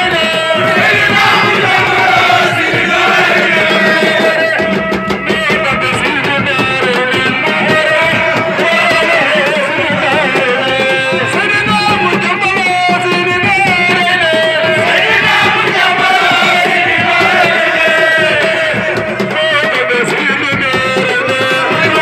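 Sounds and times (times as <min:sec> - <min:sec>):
percussion: 0:00.0 - 0:22.0
song with accompaniment: 0:00.0 - 0:22.0.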